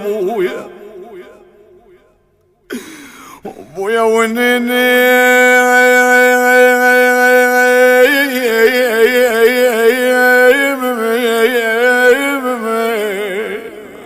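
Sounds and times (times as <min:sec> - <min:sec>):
man singing a lament: 0:00.0 - 0:01.4, 0:02.8 - 0:14.0.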